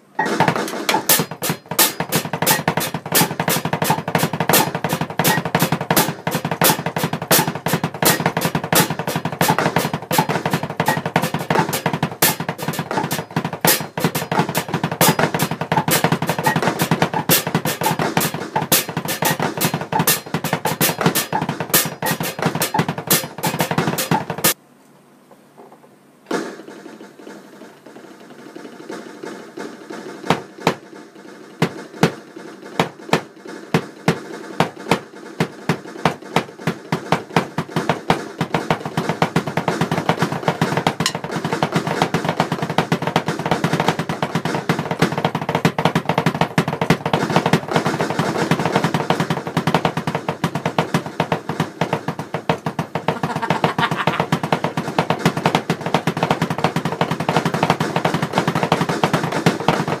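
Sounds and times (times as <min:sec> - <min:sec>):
electronic drum strokes: 0:00.0 - 0:24.6, 0:26.3 - 1:00.0.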